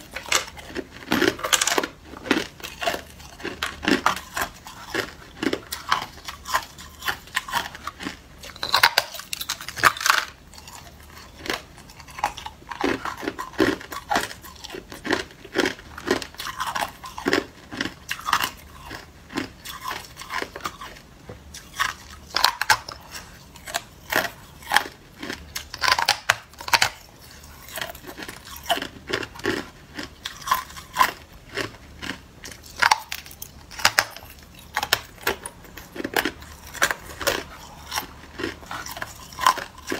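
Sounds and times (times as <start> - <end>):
person crunching ice: 0.0 - 20.9, 24.0 - 39.9.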